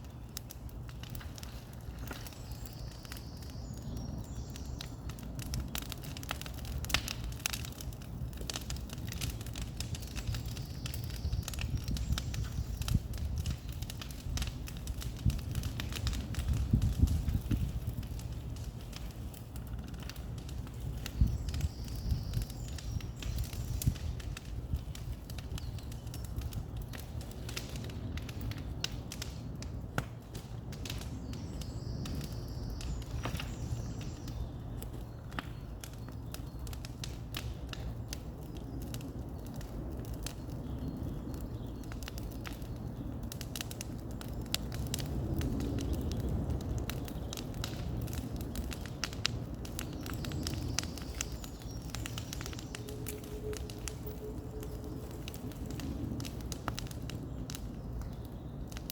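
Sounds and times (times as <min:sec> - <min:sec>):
bonfire crackling: 0:00.0 - 0:58.9.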